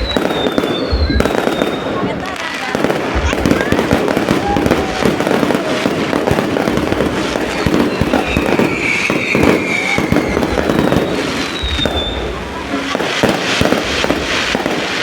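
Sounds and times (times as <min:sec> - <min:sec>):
firework whistle: 0:00.0 - 0:15.0
fireworks bangs and crackling: 0:00.0 - 0:15.0.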